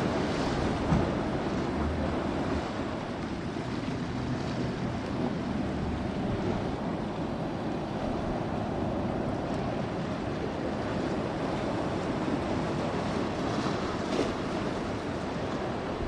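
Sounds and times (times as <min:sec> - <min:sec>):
ocean waves and surf: 0:00.0 - 0:16.0.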